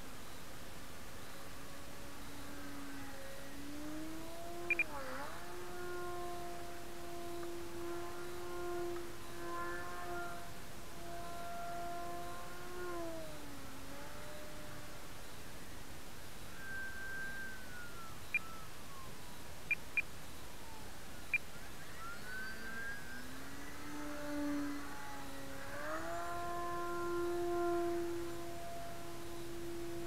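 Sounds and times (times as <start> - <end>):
model airplane motor whine: 1.0 - 19.3, 20.3 - 30.0.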